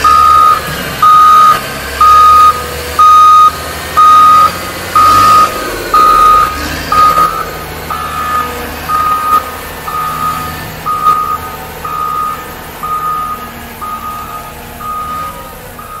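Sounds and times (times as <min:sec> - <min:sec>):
diesel engine running: 0:00.0 - 0:16.0
reversing alarm beeping: 0:00.0 - 0:16.0.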